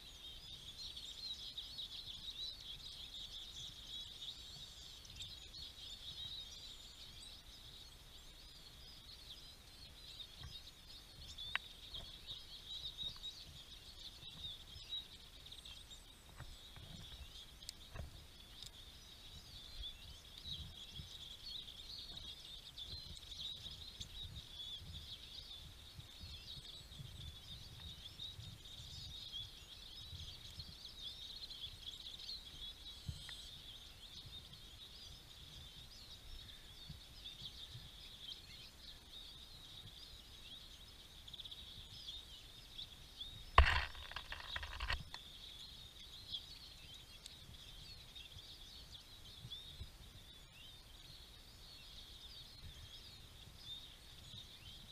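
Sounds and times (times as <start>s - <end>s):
songbirds twittering: 0.0s - 54.9s.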